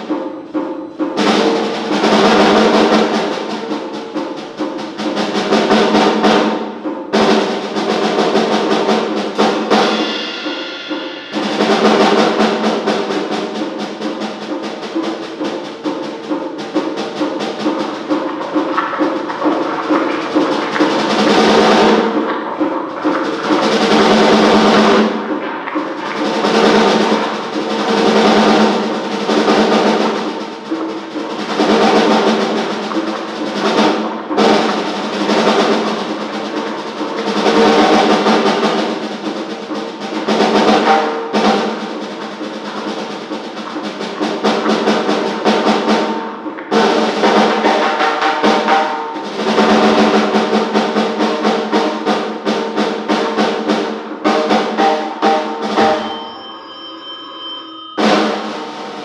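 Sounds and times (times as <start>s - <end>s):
rattling rolling percussion: 0.0s - 59.0s.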